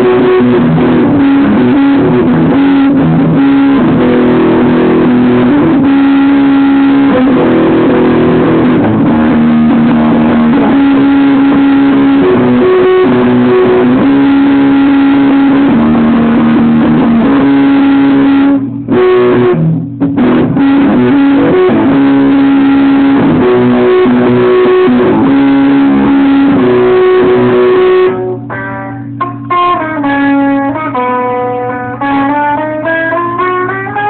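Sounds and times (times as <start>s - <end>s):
loud guitar music: 0.0s - 34.0s.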